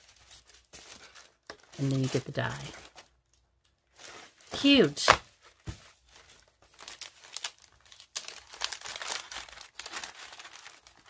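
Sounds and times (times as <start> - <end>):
cellophane crinkling: 0.0 - 11.0.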